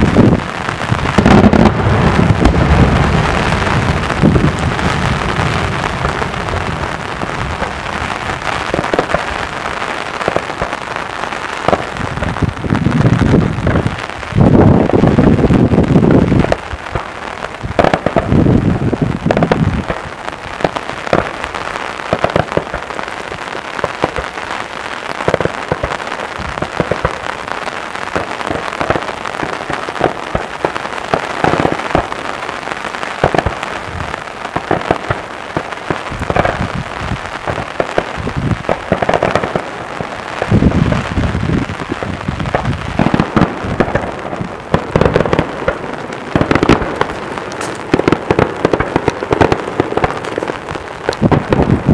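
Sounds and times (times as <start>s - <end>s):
firecrackers crackling: 0.0s - 51.9s
firework booms: 0.0s - 51.9s.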